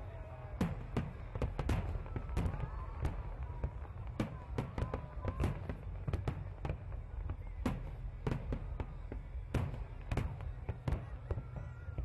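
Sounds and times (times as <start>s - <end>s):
firework bangs echoing: 0.4s - 12.0s.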